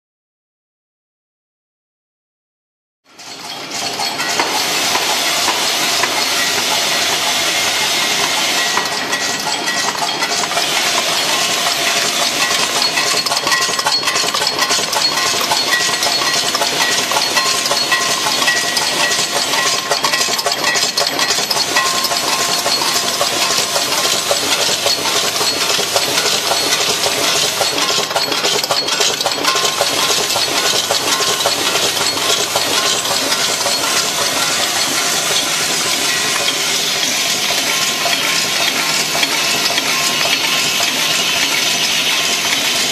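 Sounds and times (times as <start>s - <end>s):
machine hiss: 4.2s - 42.9s.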